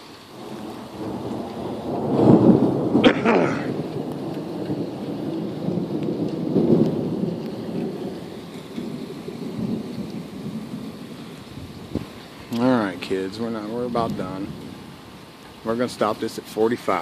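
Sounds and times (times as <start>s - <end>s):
steady rain: 0.0s - 17.0s
thunder rumbling: 0.0s - 17.0s
sharp thunder crack: 0.3s - 16.2s.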